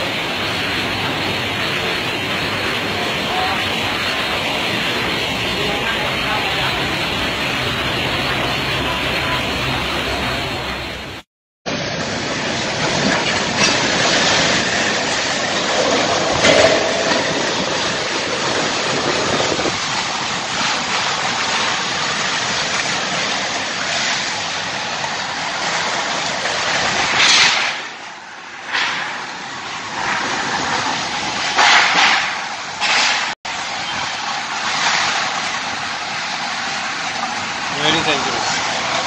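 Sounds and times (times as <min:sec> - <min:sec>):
storm wind and rain: 0:00.0 - 0:39.0.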